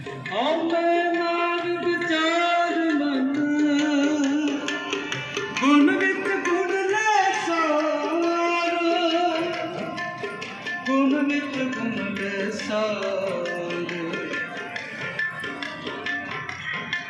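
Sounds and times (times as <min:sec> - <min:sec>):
tabla: 0:00.0 - 0:17.0.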